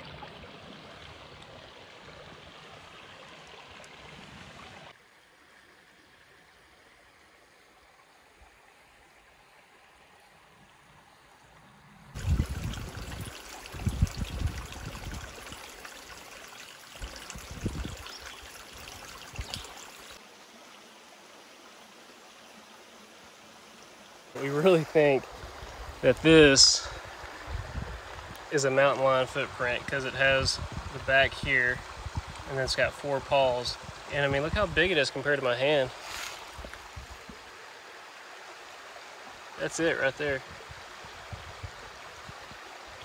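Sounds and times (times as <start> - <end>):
creek water flowing over rock: 0.0 - 43.0.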